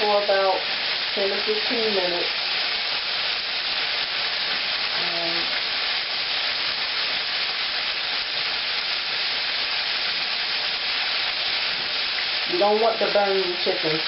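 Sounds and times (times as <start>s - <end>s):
chicken sizzling in a pan: 0.0s - 14.0s.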